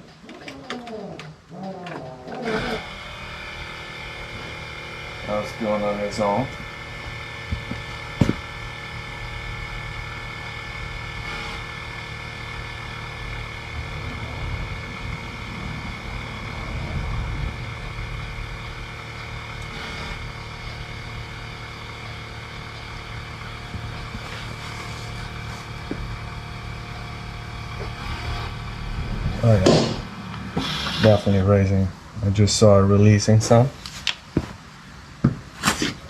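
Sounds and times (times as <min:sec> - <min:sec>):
air suspension compressor running: 0:02.4 - 0:32.6.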